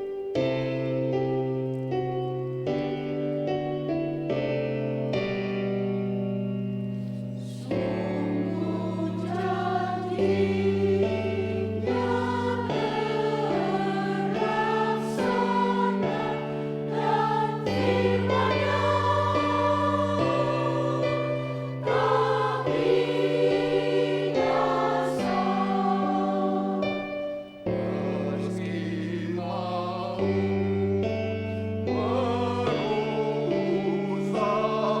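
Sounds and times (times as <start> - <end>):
church choir singing: 0.0 - 35.0
sustained keyboard chords: 0.0 - 35.0.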